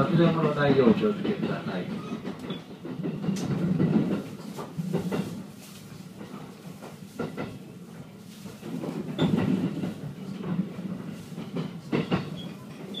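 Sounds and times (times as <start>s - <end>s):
train running rumble: 0.0s - 13.0s
train wheel clacks: 0.0s - 13.0s.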